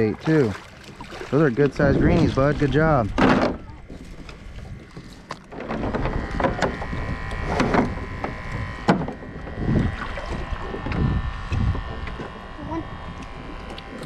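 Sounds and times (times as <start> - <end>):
wind and water noise: 0.0 - 14.0.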